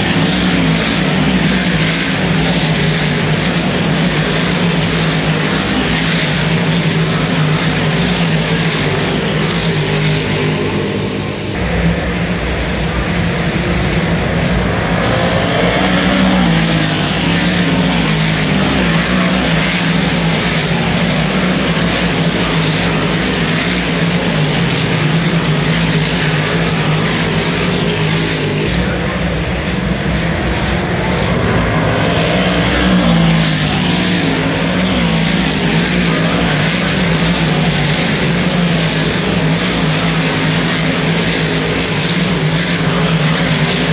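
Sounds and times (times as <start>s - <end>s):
race car engines running hard: 0.0s - 43.9s.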